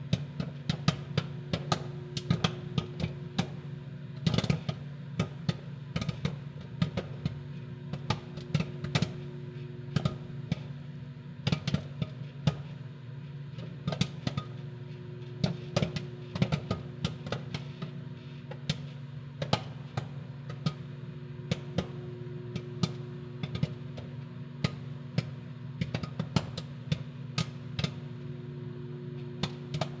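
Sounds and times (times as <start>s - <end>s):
microwave oven hum: 0.0s - 30.0s
popcorn popping: 0.0s - 30.0s.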